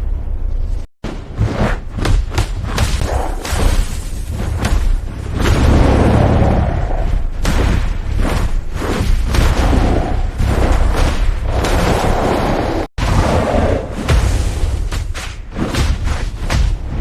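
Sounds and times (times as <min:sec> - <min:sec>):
heavy booms and thuds: 0:01.0 - 0:17.0.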